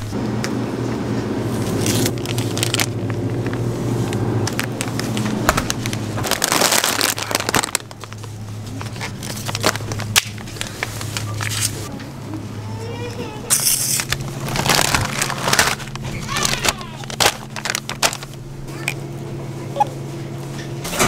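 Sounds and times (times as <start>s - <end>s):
low shop hum: 0.0s - 21.0s.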